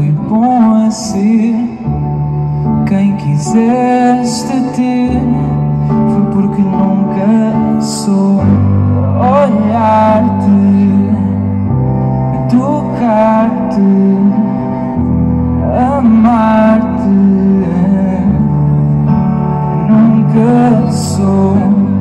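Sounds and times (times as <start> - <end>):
man singing: 0.0 - 22.0
sustained keyboard chords: 0.0 - 22.0.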